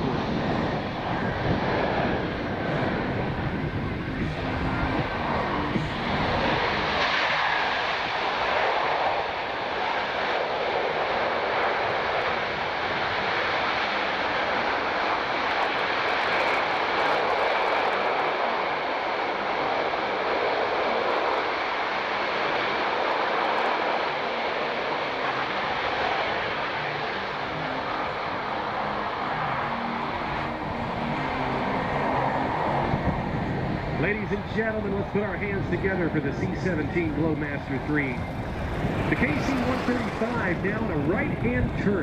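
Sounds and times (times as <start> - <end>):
jet engines in reverse thrust: 0.0 - 42.0.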